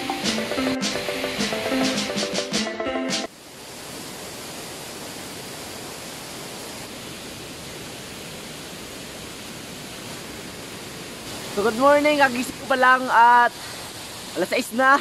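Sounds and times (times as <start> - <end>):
river and waterfall rushing: 0.0 - 15.0.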